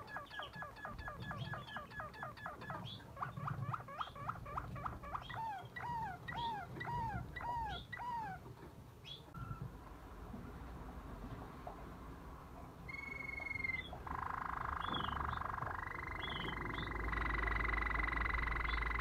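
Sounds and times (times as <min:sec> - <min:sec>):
canary singing: 0:00.0 - 0:09.7, 0:12.9 - 0:19.0.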